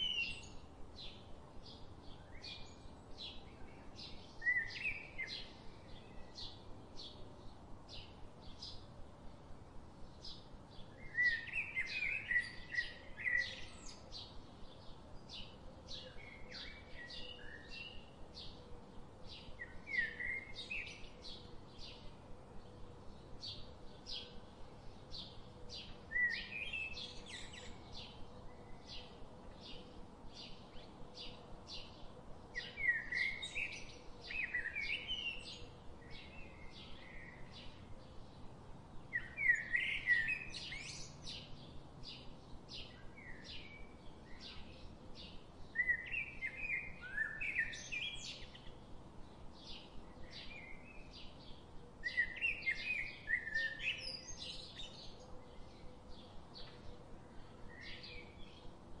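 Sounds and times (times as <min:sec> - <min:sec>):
bird warbling song: 0:00.0 - 0:07.2, 0:10.2 - 0:59.0
bird chirping: 0:00.0 - 0:08.9, 0:10.0 - 0:59.0.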